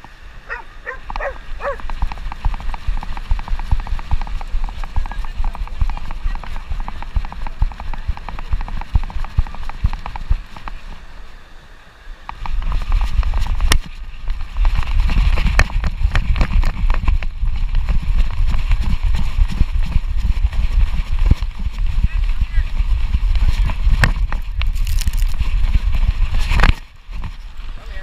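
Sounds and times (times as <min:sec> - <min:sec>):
wind buffeting microphone: 0:00.0 - 0:11.1, 0:12.3 - 0:28.0
harness and camera jostling: 0:00.5 - 0:11.0, 0:12.3 - 0:27.7.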